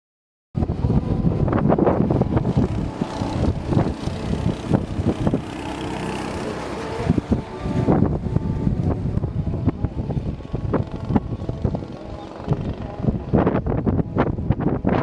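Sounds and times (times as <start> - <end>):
wind buffeting microphone: 0.6 - 15.0
go-kart engines: 0.7 - 13.4.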